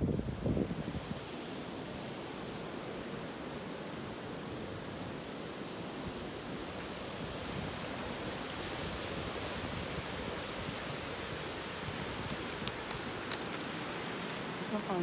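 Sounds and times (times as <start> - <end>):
wind: 0.0 - 15.0
sea waves rushing: 0.5 - 15.0.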